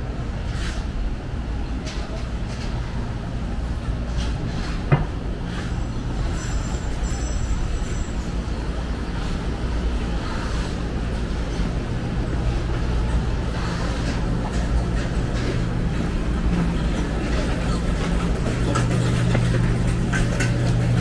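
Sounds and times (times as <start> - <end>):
low rumble of city traffic: 0.0 - 21.0.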